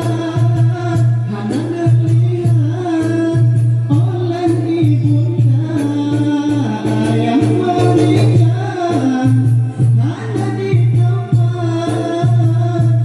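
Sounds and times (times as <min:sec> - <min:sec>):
frame drums beating: 0:00.0 - 0:13.0
person singing lead vocal: 0:00.0 - 0:13.0.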